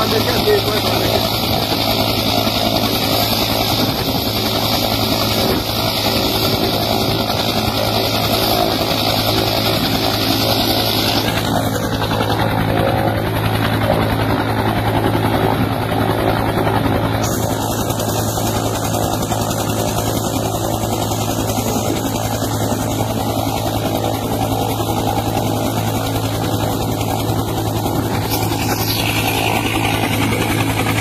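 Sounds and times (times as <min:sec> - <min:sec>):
helicopter idling: 0:00.0 - 0:31.0.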